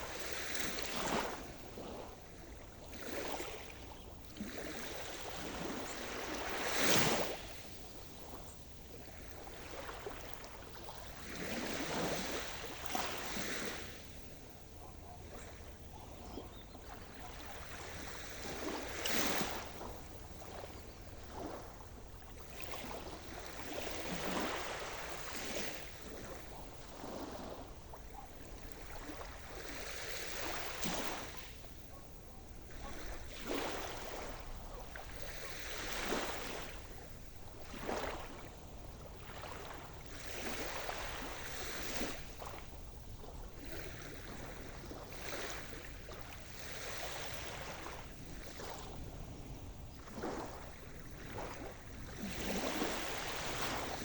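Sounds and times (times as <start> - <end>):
waves breaking: 0.0 - 54.0
wind rumble on microphone: 0.0 - 54.0.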